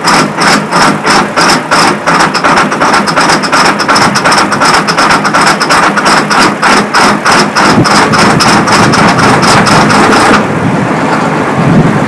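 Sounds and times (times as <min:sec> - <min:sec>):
diesel tractor engine pulsing: 0:00.0 - 0:12.0.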